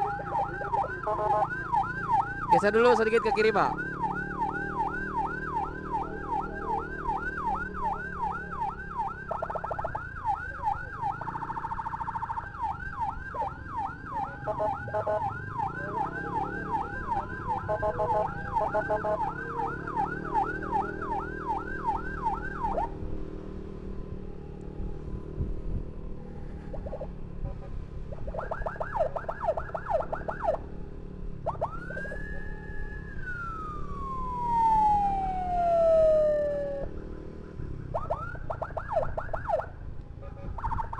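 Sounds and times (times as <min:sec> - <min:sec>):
motorcycle engine: 0:00.0 - 0:02.8, 0:03.4 - 0:40.9
emergency siren yelping: 0:00.0 - 0:23.0, 0:28.1 - 0:30.7, 0:31.4 - 0:37.2, 0:37.9 - 0:39.8, 0:40.6 - 0:40.9
traffic noise: 0:00.0 - 0:40.9.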